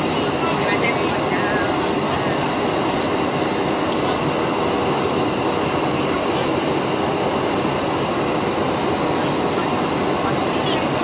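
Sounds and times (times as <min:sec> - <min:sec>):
airplane engines in cabin: 0:00.0 - 0:11.0.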